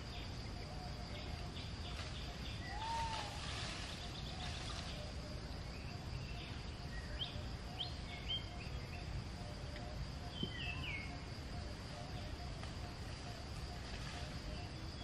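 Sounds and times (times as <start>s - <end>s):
birds chirping: 0.0s - 15.0s
high insect drone: 0.0s - 15.0s.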